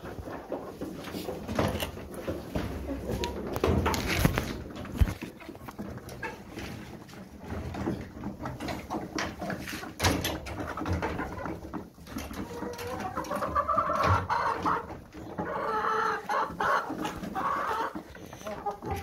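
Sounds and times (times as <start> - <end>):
chickens clucking: 0.0 - 19.0
chickens drawn-out calls: 0.0 - 19.0.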